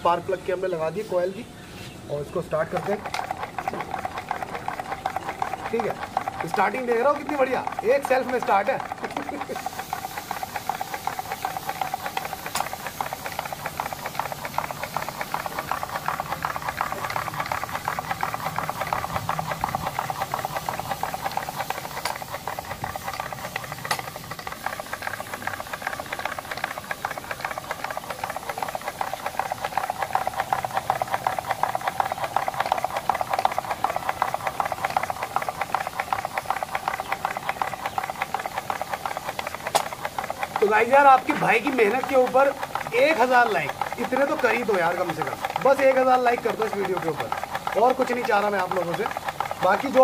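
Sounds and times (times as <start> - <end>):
small petrol engine clattering: 0.0 - 50.0.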